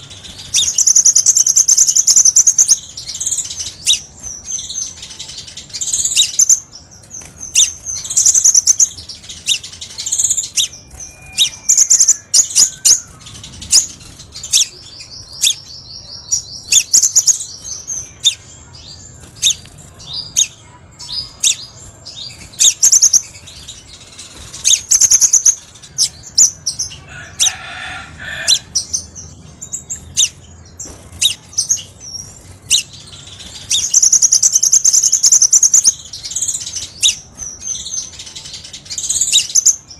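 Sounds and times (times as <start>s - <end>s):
bird song chirps and trills: 0.0s - 39.9s.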